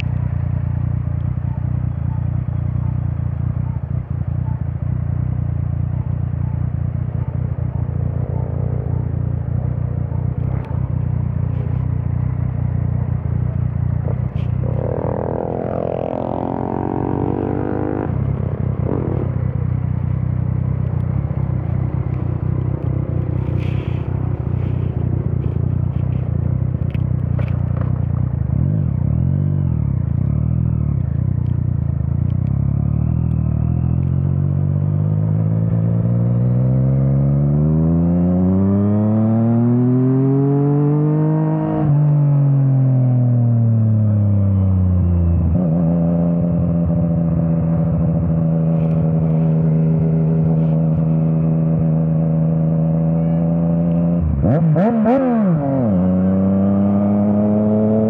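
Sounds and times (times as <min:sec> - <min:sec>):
motorcycle engine rumble: 0:00.0 - 0:58.0.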